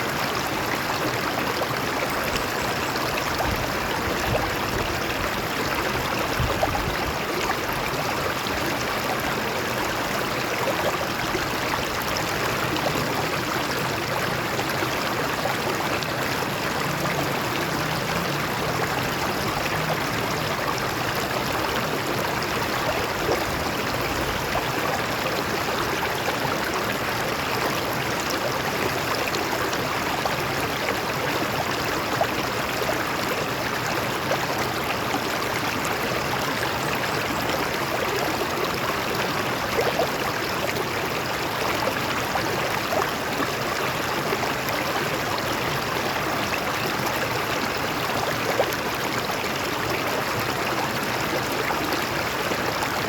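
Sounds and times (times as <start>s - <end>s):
stream babbling over rocks: 0.0s - 53.0s.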